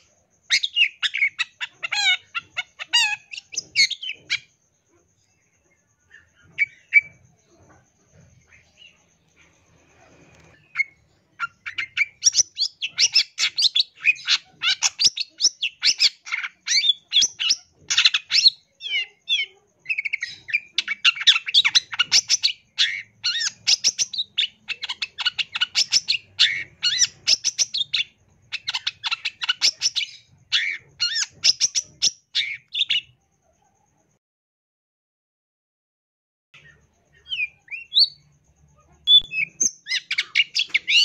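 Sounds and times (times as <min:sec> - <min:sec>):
bird singing chirps and trills: 0:00.0 - 0:33.3, 0:36.6 - 0:41.0.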